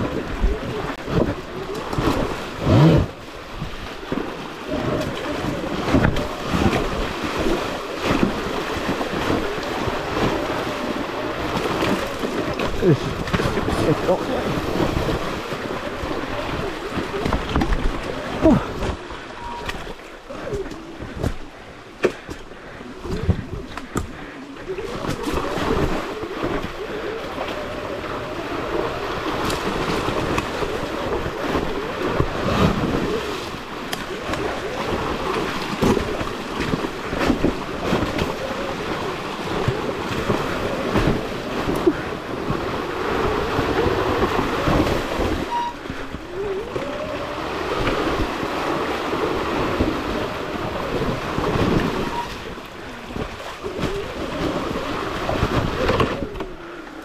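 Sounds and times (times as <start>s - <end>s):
steady rushing noise: 0.0s - 46.2s.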